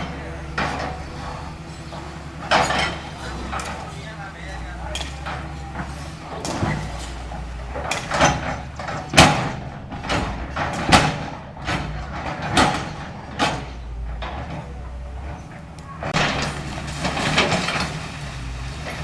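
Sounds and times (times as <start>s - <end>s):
breaking concrete crashes: 0.0s - 19.0s
diesel engine humming: 0.0s - 19.0s.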